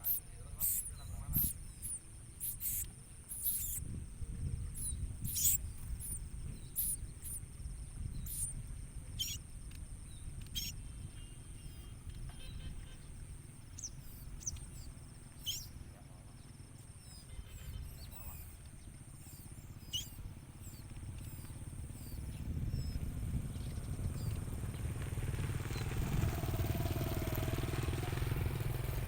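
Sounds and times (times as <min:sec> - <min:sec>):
steady high-pitched whine: 0:00.0 - 0:25.1
birds chirping high and thin: 0:00.0 - 0:27.0.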